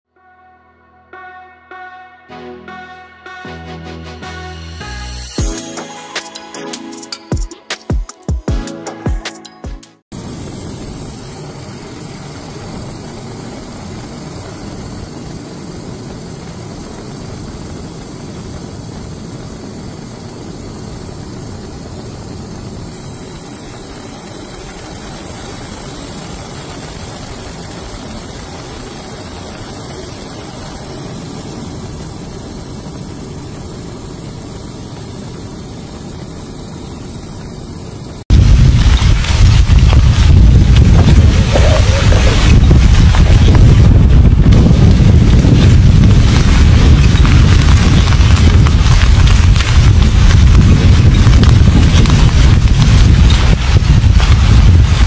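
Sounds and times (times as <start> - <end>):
aircraft engine rumble: 10.2 - 55.0.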